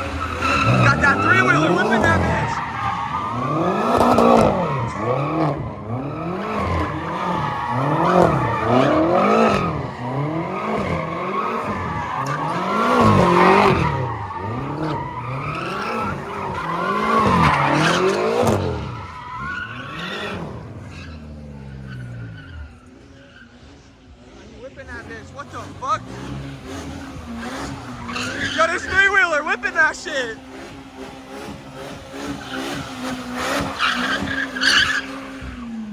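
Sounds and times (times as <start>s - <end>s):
tyres squealing: 0.0s - 23.6s, 24.6s - 35.9s
car engine revving: 0.0s - 35.9s.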